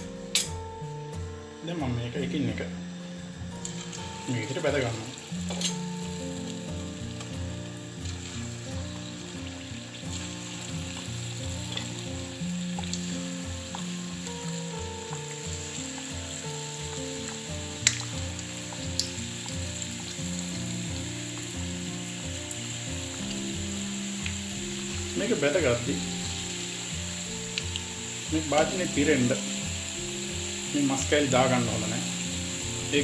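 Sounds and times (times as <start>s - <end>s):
chicken frying in hot oil: 3.2s - 33.0s.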